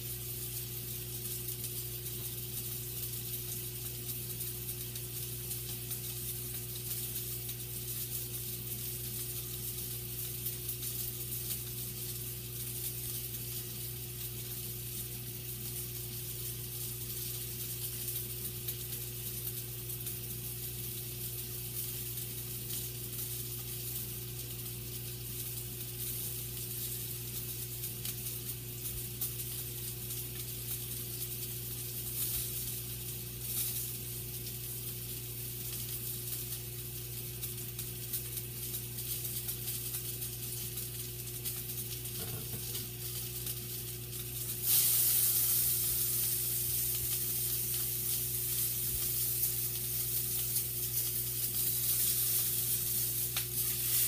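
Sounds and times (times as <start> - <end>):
sausage sizzling in a pan: 0.0 - 54.0
steady low hum: 0.0 - 54.0.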